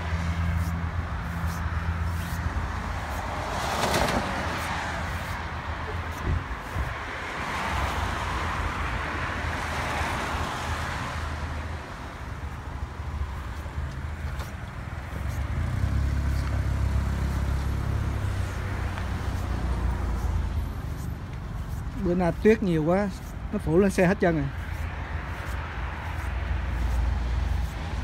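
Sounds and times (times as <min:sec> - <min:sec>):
deep traffic rumble: 0:00.0 - 0:28.0.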